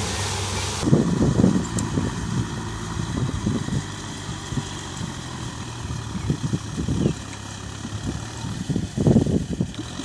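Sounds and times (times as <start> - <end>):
distant tractor diesel engine running: 0.0 - 10.0.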